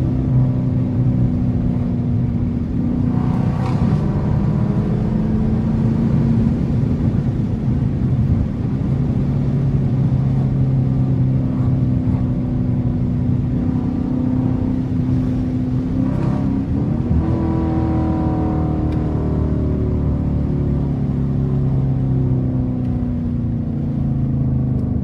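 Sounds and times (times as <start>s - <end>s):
car engine cruising: 0.0s - 25.0s.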